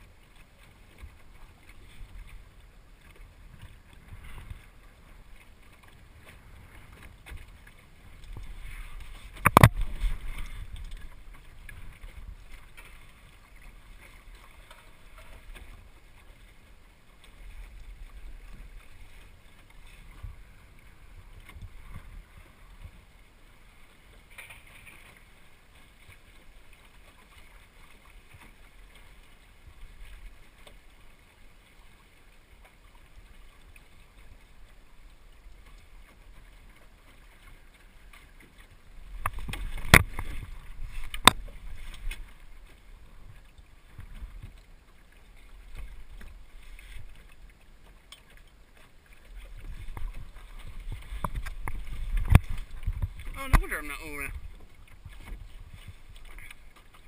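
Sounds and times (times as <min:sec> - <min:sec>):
water lapping against hull: 0:00.0 - 0:57.0.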